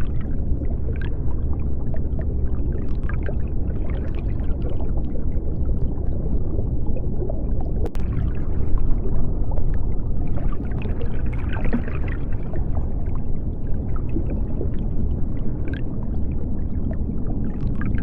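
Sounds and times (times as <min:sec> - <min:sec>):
faint bubbling crackles: 0:00.0 - 0:18.0
underwater low rumble: 0:00.0 - 0:18.0.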